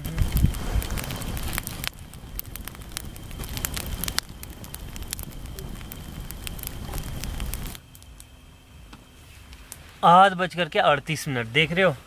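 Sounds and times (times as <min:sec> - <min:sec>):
campfire crackling and popping: 0:00.0 - 0:12.0
fire rushing noise: 0:00.0 - 0:12.0.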